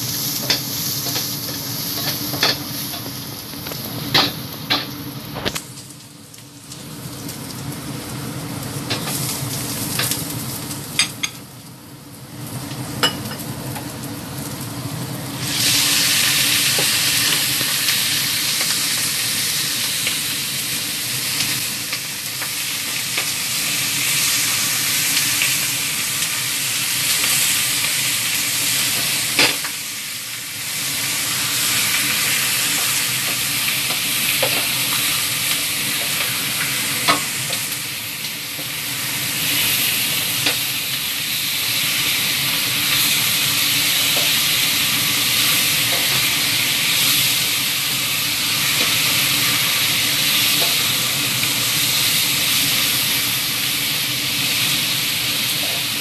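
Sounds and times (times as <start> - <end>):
garlic and onion frying in oil: 0.0 - 56.0
loud sizzle of chicken in oil: 0.0 - 56.0.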